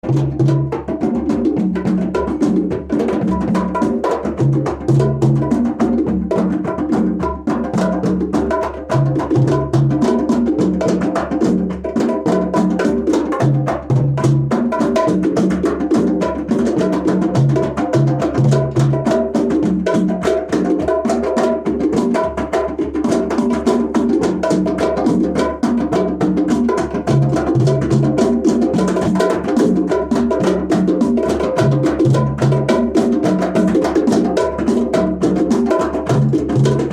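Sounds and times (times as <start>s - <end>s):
djembe hand drumming: 0.0s - 36.9s.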